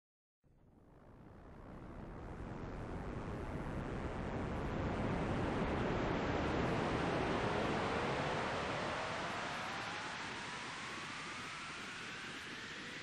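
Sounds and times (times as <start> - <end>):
ambient noise wash: 1.3 - 13.0.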